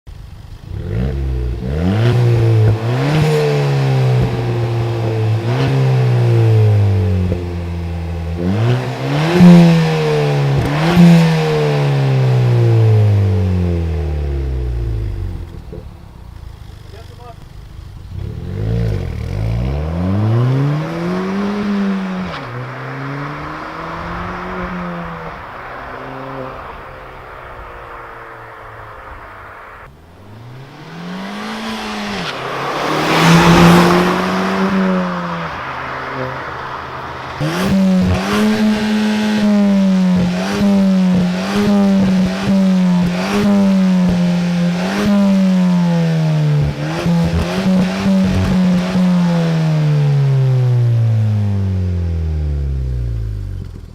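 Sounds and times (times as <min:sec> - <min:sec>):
car engine revving: 0:00.1 - 0:53.9.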